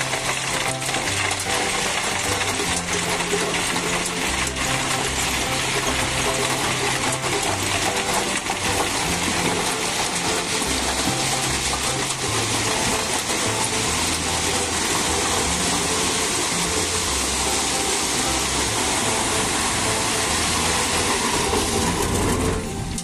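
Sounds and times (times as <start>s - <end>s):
background music with bass: 0.0s - 23.0s
vibratory roller metallic rattling: 0.0s - 23.0s.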